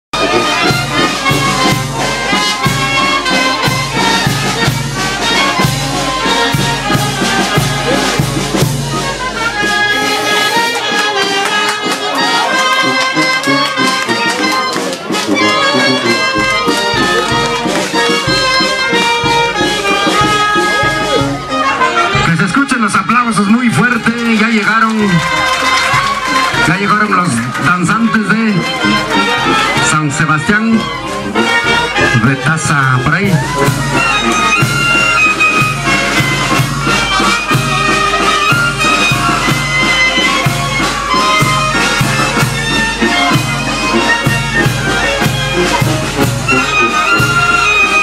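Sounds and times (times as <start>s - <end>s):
brass band dance music: 0.1s - 48.0s.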